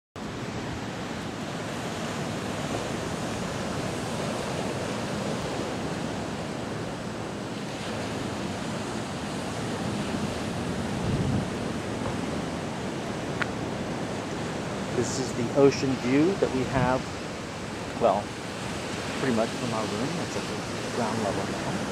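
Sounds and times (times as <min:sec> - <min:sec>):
surf breaking on rocky shore: 0:00.2 - 0:21.9
wind blowing across microphone: 0:00.2 - 0:21.9.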